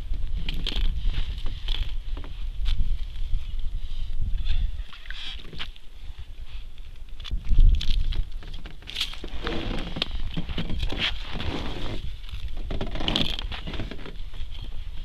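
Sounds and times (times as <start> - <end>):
rustling and crunching handling noises: 0.0 - 15.0
wind rumble on microphone: 0.0 - 15.0.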